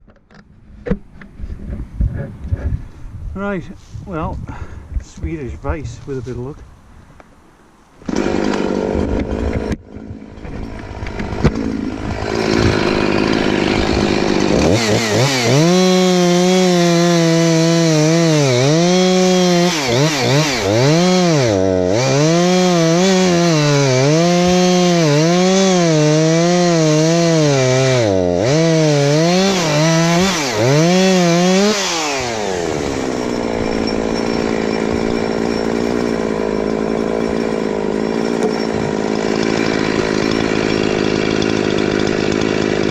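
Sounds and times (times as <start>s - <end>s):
chainsaw cutting wood: 8.0s - 42.9s.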